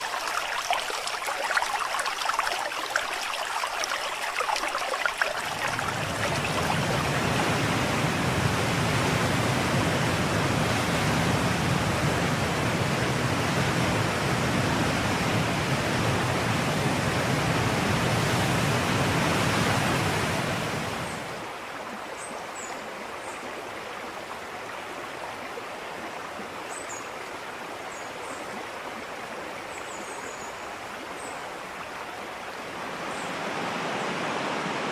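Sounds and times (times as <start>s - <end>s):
river water gurgling: 0.0s - 34.9s.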